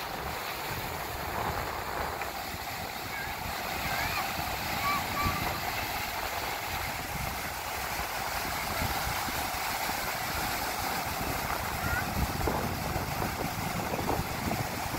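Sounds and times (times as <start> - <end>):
waves breaking on beach: 0.0 - 14.9
wind on microphone: 0.0 - 14.9.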